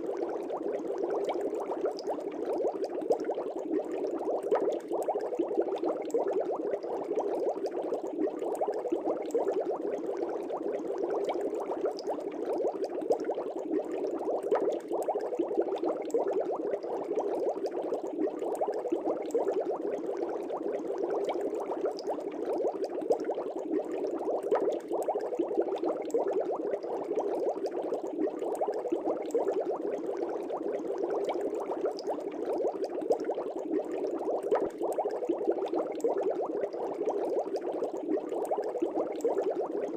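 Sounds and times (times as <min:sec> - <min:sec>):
air bubbles in fish tank: 0:00.0 - 0:39.9.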